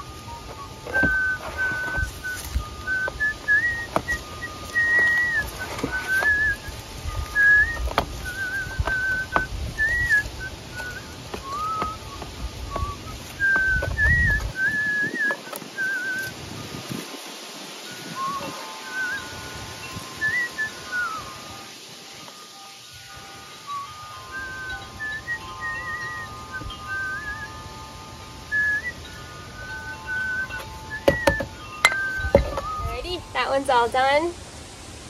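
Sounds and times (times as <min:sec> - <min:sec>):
person whistling a slow tune: 0:00.0 - 0:17.0, 0:17.8 - 0:33.4.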